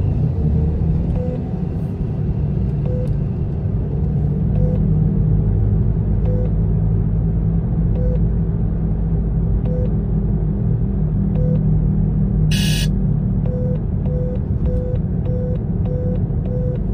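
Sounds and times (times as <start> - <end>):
car road rumble: 0.0 - 16.9.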